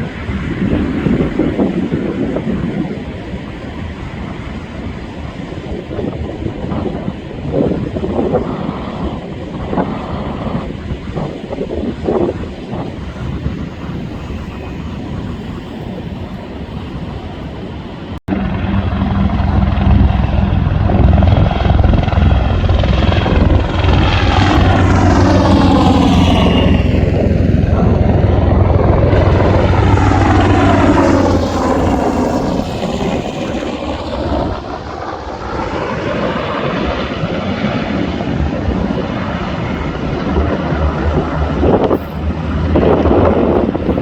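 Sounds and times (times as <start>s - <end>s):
helicopter flying over: 0.0s - 44.0s.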